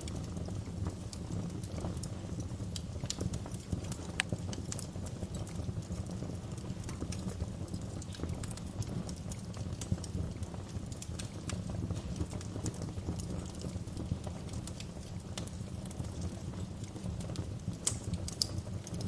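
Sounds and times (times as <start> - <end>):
fire pops and snaps: 0.0 - 19.0
low rumble of burning fire: 0.0 - 19.0.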